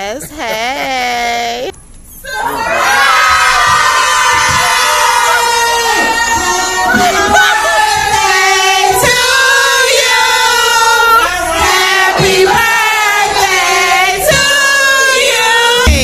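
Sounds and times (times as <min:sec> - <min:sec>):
singing voices holding long notes: 0:02.3 - 0:16.0.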